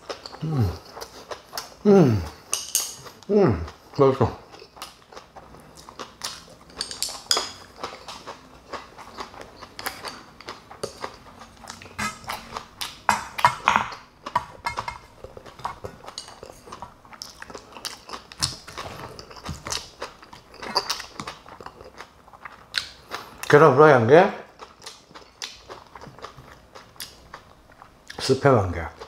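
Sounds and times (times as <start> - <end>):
person chewing: 0.0 - 23.5, 24.4 - 28.3.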